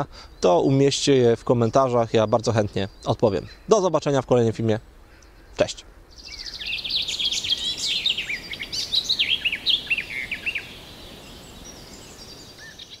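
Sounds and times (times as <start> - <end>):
small bird twittering song: 0.0 - 13.0.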